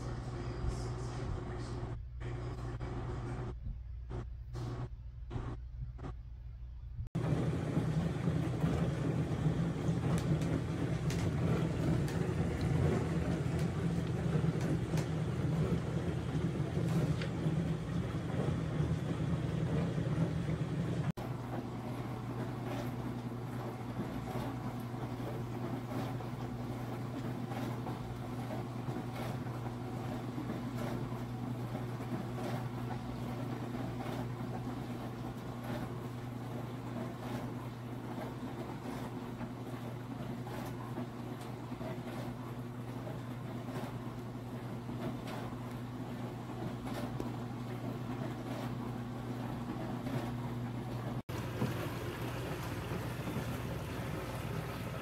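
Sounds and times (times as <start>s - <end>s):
dishwasher pump humming: 0.0s - 55.0s
rhythmic water swish: 7.1s - 55.0s
water spraying inside dishwasher: 7.1s - 55.0s.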